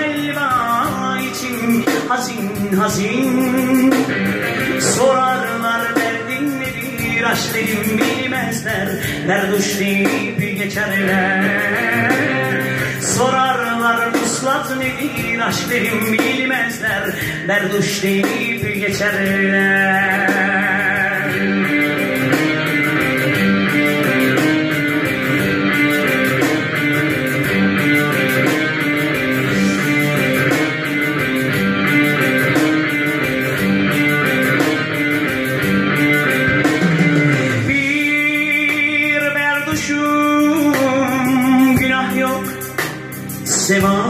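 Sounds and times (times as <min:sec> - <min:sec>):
instrumental music with plucked strings: 0:00.0 - 0:44.0.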